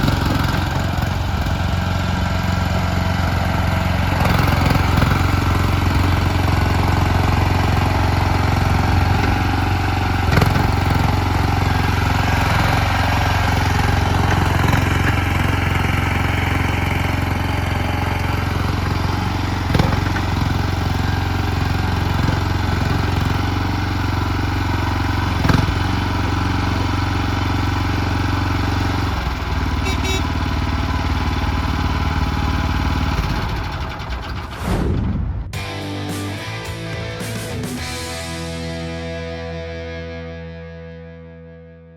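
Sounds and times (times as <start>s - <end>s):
loader engine running: 0.0s - 39.7s.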